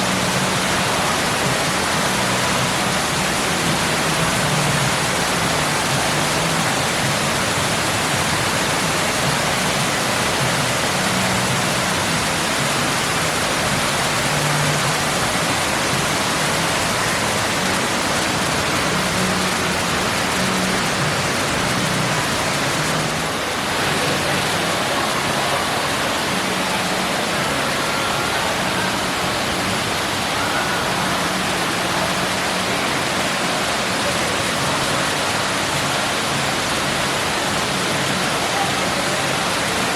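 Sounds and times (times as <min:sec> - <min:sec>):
water rushing down waterfall: 0:00.0 - 0:39.9.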